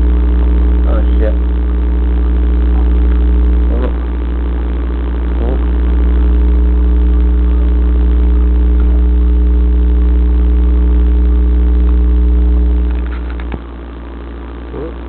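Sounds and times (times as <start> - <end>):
aquarium pump motor hum: 0.0 - 15.0.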